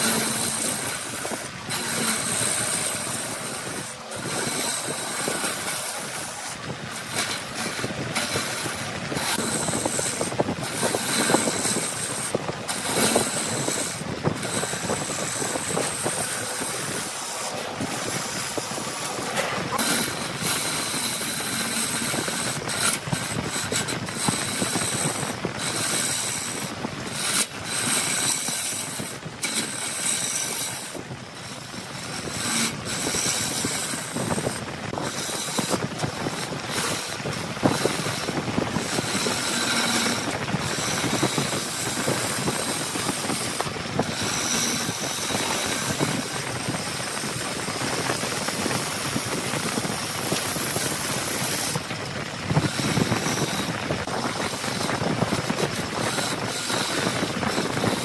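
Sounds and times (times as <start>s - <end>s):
tool scraping spinning wood: 0.0s - 58.0s
wood lathe running: 0.0s - 58.0s.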